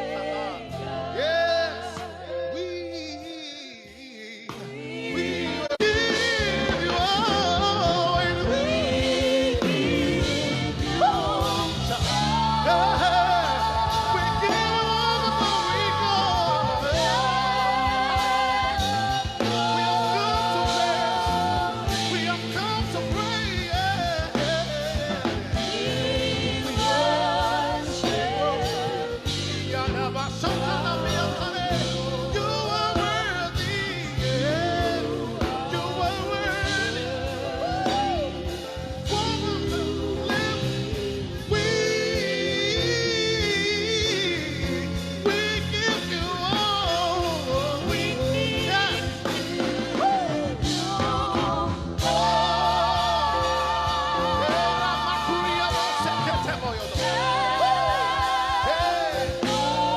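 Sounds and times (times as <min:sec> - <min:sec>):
band playing worship music: 0:00.0 - 0:59.9
person singing gospel melody: 0:00.0 - 0:59.9
bass guitar: 0:04.6 - 0:59.9.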